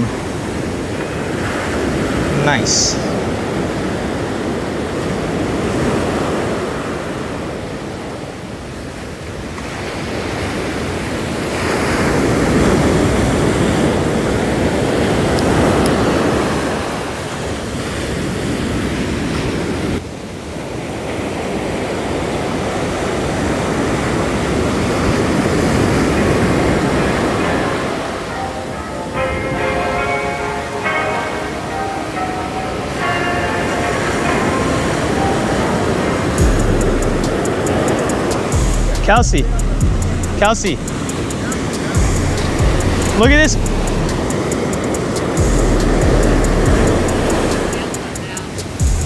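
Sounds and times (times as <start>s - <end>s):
ocean surf breaking on sand: 0.0s - 36.4s, 37.4s - 39.2s, 40.4s - 42.0s, 44.1s - 48.9s.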